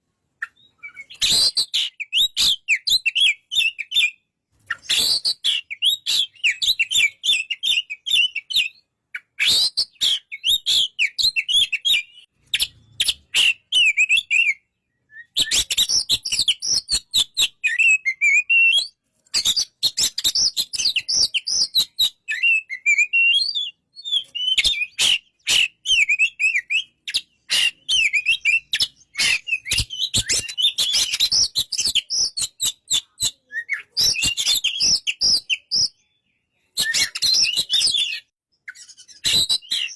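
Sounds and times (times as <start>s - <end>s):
bird singing chirps and whistles: 0.4s - 39.9s.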